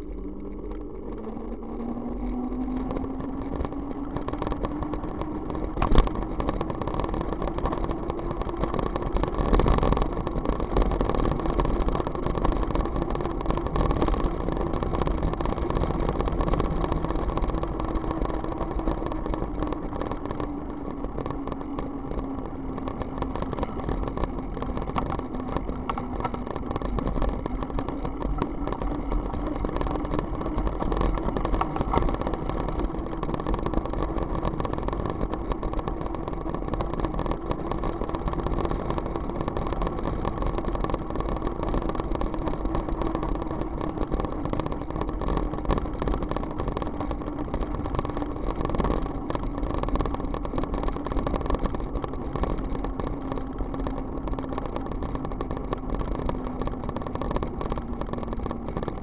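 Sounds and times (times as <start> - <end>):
vehicle motor running: 0.0 - 59.0
wind and road noise: 0.0 - 59.0.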